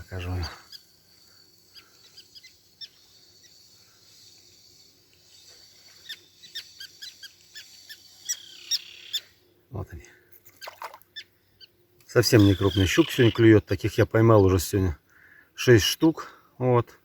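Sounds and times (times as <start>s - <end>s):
birds chirping: 0.0s - 16.5s.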